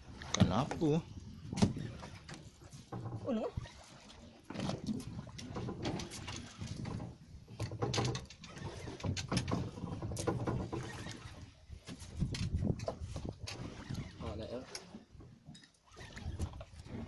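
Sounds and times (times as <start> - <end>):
water splashing against boat hull: 0.0 - 17.0.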